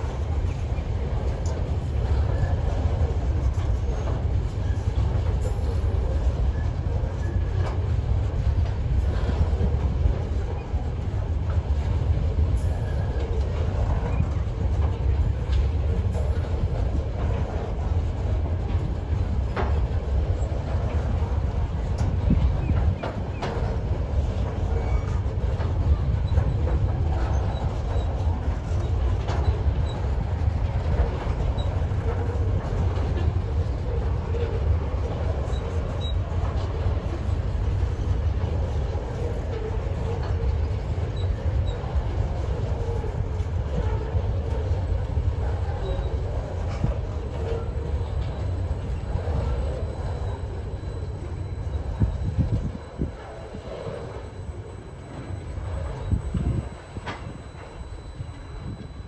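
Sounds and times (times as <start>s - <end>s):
freight wagons rolling on rails: 0.0s - 59.0s.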